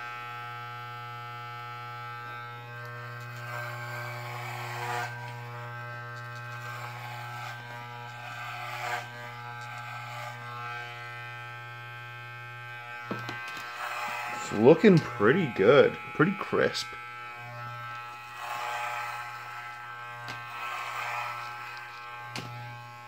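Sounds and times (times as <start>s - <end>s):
electric hair clippers buzzing: 0.0s - 23.0s.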